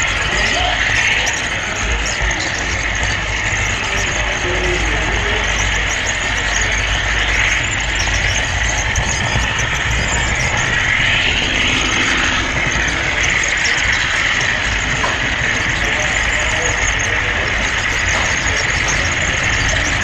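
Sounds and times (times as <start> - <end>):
model train wheels rattling: 0.0 - 20.0.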